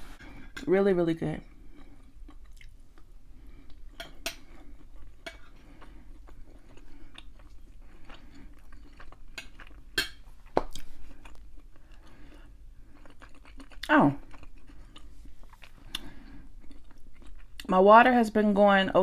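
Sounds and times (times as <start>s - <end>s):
close-up chewing: 1.5s - 17.7s.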